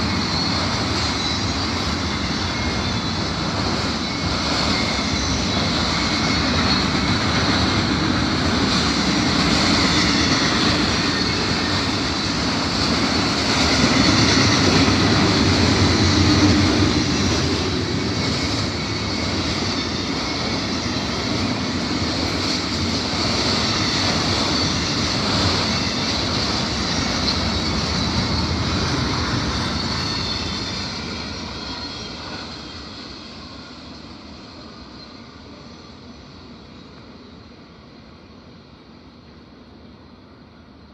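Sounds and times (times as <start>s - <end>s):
freight train wheels on rail: 0.0s - 40.9s.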